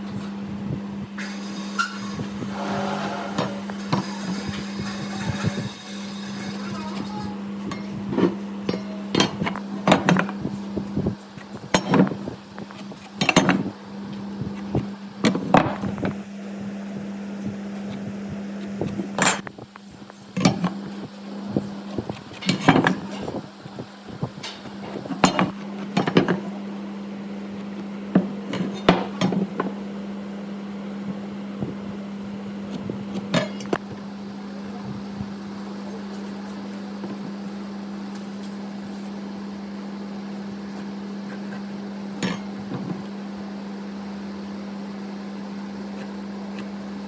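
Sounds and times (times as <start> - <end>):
steady hum: 0.0 - 47.0.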